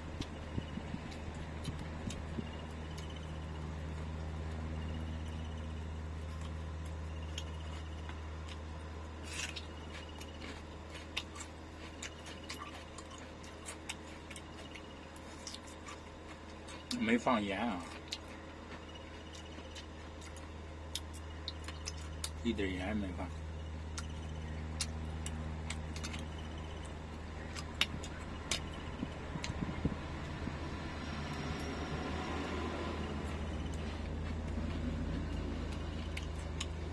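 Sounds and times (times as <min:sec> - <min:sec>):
low hum: 0:00.0 - 0:36.9.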